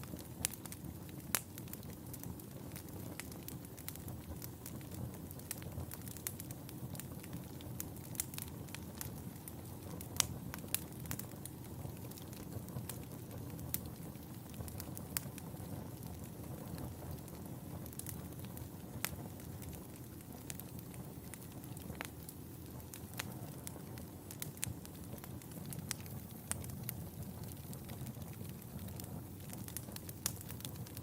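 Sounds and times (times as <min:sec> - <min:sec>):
fire crackles and pops: 0:00.0 - 0:31.0
wood fire rumbling and hissing: 0:00.0 - 0:31.0.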